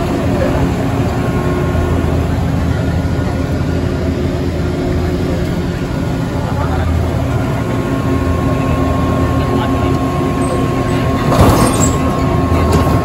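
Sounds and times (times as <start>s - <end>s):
drive machinery humming: 0.0s - 13.0s.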